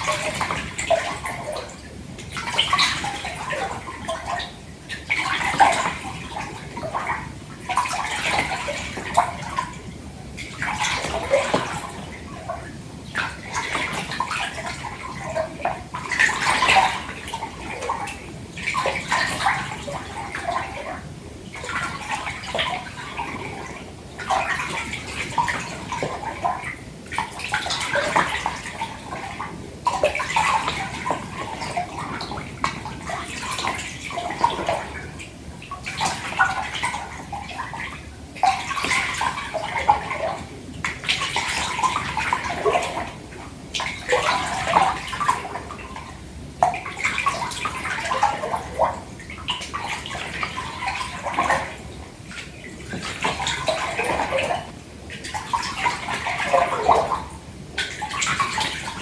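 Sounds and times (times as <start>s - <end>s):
bath water sloshing: 0.0s - 59.0s.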